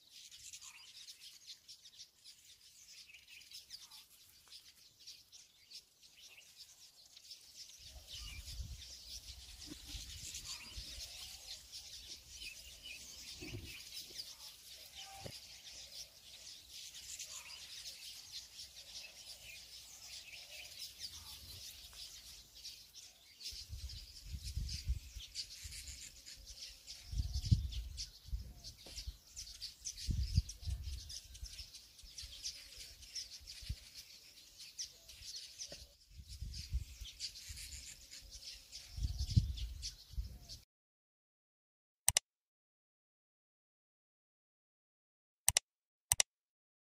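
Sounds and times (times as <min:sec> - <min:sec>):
small birds chirping: 0:00.0 - 0:40.7.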